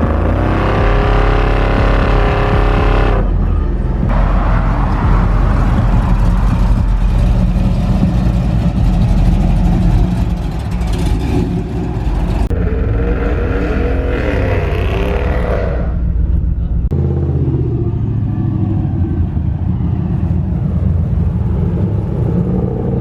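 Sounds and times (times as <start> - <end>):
truck engine accelerating: 0.0 - 23.0.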